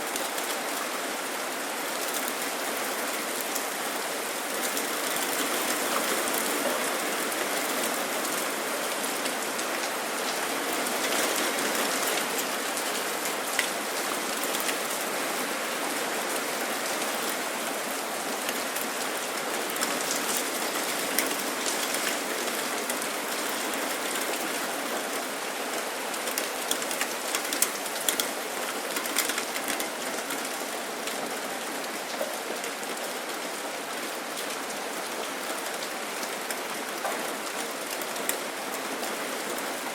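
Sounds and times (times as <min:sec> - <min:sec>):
raindrops ticking on a surface: 0:00.0 - 0:00.8, 0:01.6 - 0:15.1, 0:16.2 - 0:39.9.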